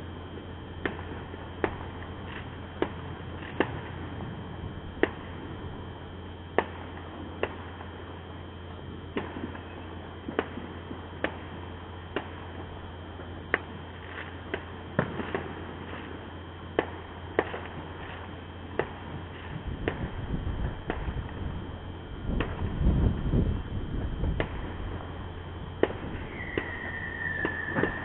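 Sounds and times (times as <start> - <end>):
distant fireworks bangs: 0.0 - 7.9, 8.9 - 21.6, 22.2 - 28.0
steady low hum: 0.0 - 28.0.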